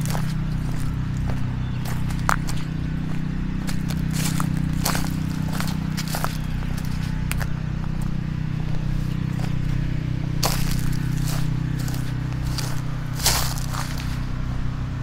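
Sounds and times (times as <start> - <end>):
footsteps on dry leaves: 0.0 - 14.7
steady low hum: 0.0 - 15.0.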